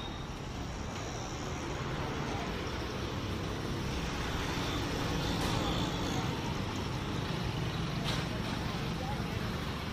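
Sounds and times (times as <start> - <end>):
distant traffic rumble: 0.0 - 9.9.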